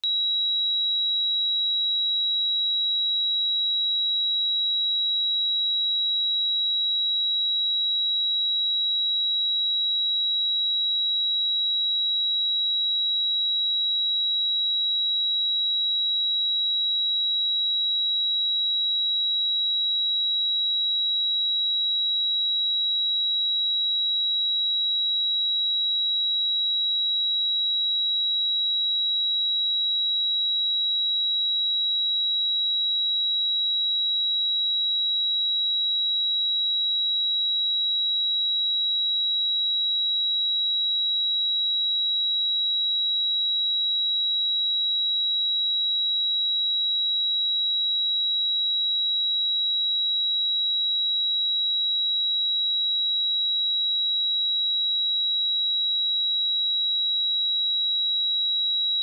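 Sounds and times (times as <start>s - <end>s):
high-pitched sine-wave test tone: 0.0s - 59.0s.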